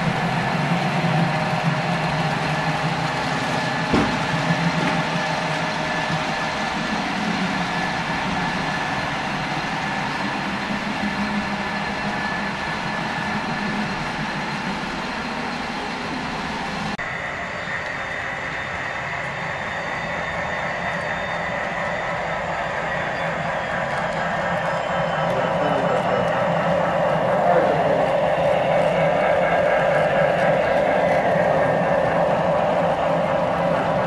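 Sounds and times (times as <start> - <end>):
model train mechanical drone: 0.0 - 34.0.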